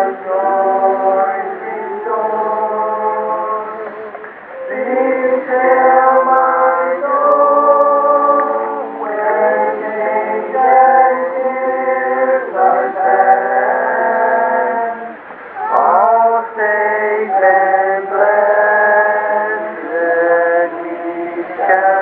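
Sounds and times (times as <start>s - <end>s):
congregation singing a hymn: 0.0s - 22.0s.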